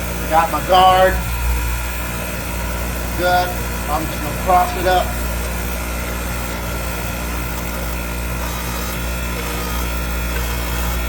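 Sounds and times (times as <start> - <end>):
power tool abrasive wheel grinding: 0.0 - 11.0.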